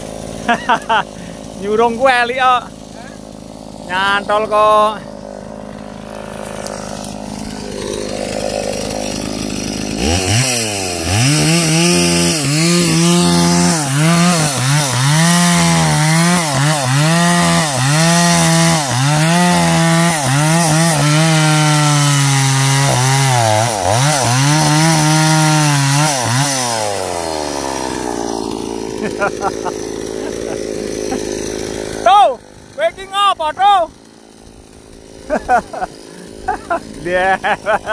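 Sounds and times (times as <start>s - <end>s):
chainsaw cutting log: 0.0s - 37.9s.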